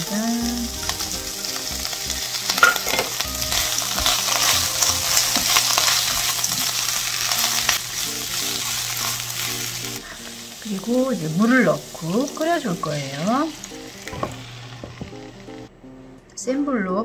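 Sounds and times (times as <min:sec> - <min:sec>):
food sizzling in hot oil: 0:00.0 - 0:15.7.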